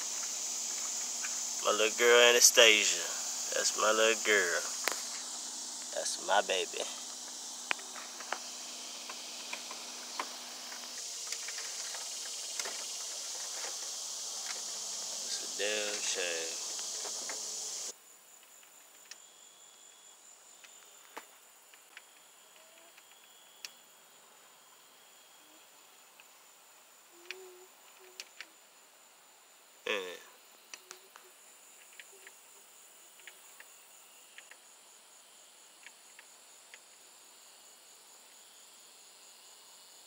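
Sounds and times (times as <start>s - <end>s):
high-pitched insect trill: 0.0s - 40.0s
steady high hiss: 0.0s - 40.0s.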